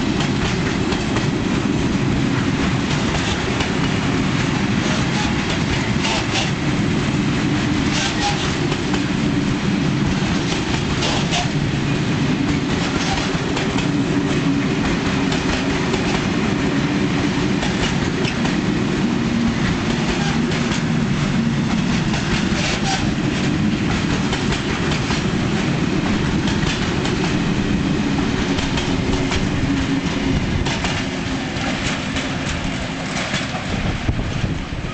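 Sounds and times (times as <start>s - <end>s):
diesel freight train rumbling: 0.0s - 34.9s
wheels clacking over rail joints: 0.0s - 34.9s.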